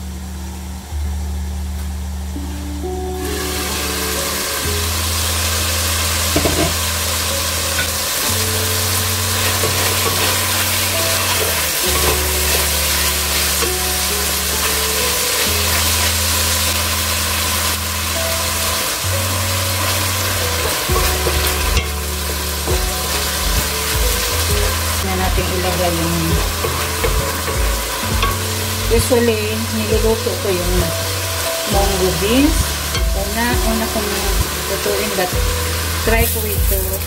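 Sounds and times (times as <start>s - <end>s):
chicken and onion sizzling in oil: 2.8s - 37.0s.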